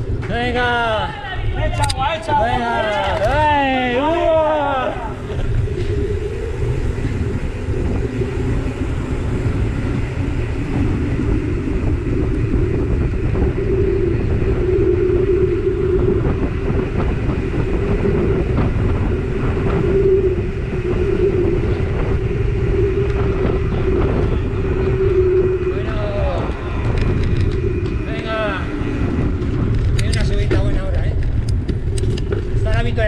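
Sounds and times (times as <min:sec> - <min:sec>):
bike tyre hum: 0:00.0 - 0:33.0
wind rumble on microphone: 0:00.0 - 0:33.0.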